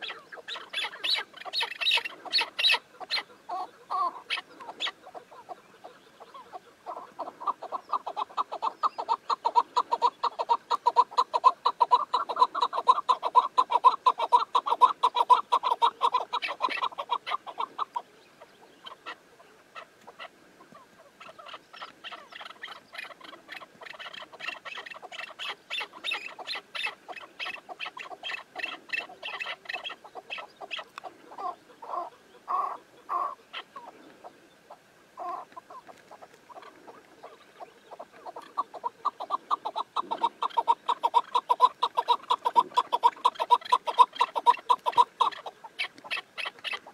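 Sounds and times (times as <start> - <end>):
partridges calling: 0.0 - 46.9.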